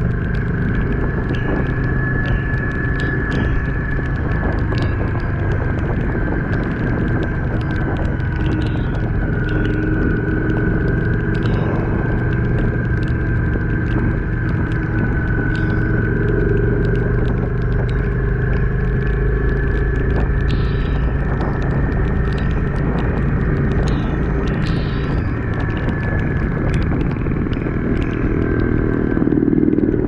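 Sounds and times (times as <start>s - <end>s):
motorcycle engine running: 0.0s - 30.0s
raindrops ticking on camera: 0.0s - 30.0s
wind rumble on microphone: 0.0s - 30.0s.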